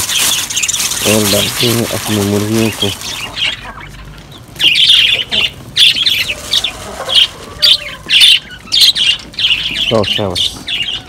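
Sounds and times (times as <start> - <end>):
farmyard birds squawking: 0.0 - 11.0.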